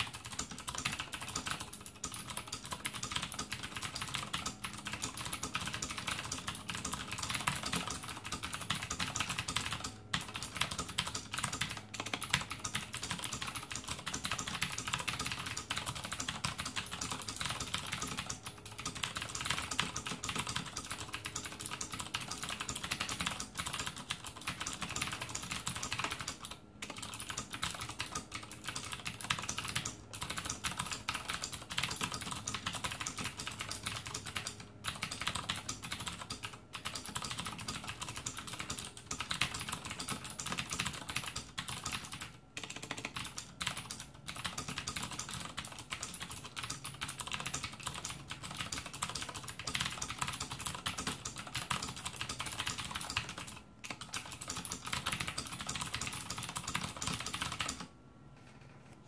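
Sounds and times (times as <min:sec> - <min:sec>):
typing on mechanical keyboard: 0:00.0 - 0:57.9.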